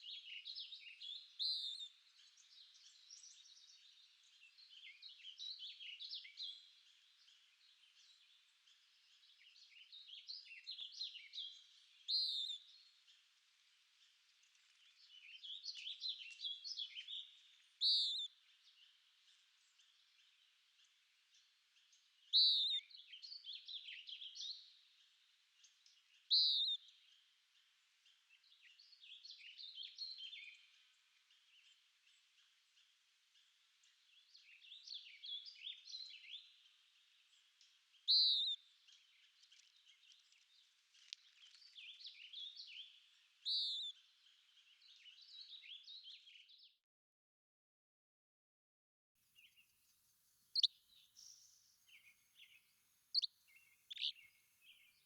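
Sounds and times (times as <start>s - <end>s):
songbirds singing: 0.0s - 46.8s, 49.4s - 49.9s, 50.5s - 55.0s.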